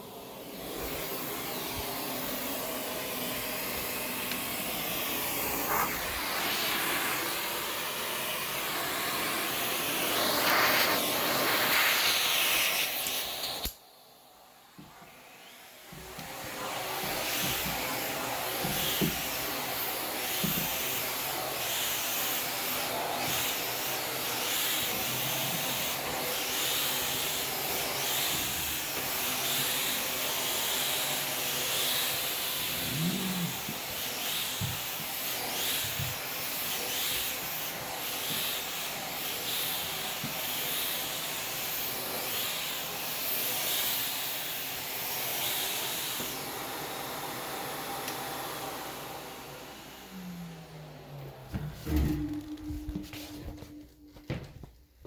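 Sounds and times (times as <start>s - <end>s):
vacuum air rushing through hose: 0.0s - 54.4s.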